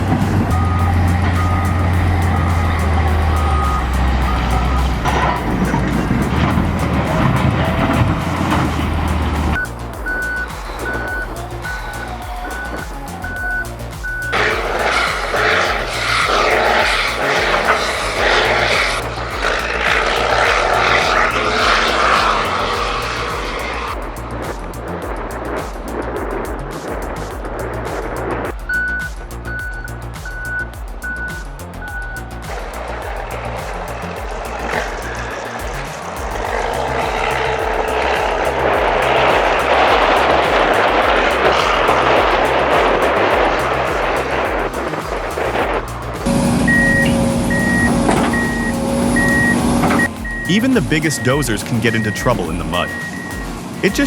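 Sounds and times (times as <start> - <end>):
heavy machinery engine: 0.0 - 13.5, 14.1 - 24.0, 33.4 - 54.0
loud rushing noise: 0.0 - 54.0
music with repeating bass: 0.0 - 54.0.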